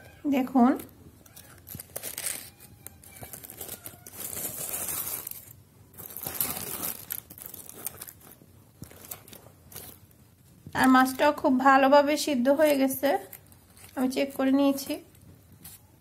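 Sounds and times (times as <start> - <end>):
aluminium foil crinkling: 0.3 - 11.6, 12.2 - 16.0.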